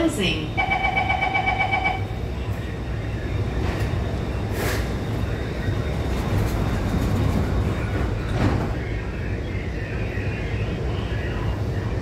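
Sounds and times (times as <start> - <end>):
metro car hum: 0.0 - 12.0.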